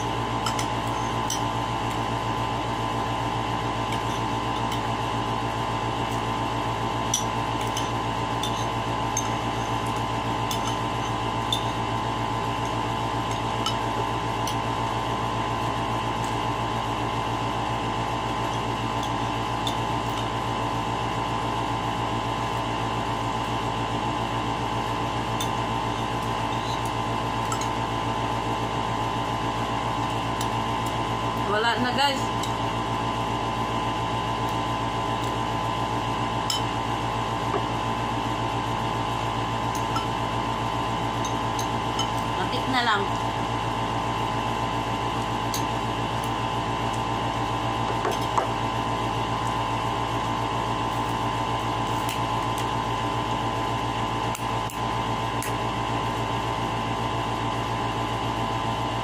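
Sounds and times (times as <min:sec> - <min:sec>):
appliance mechanical hum: 0:00.0 - 0:59.0.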